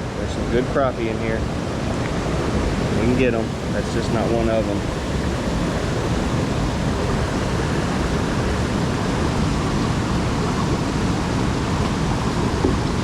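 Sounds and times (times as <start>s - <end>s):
rushing water roar: 0.0s - 13.0s.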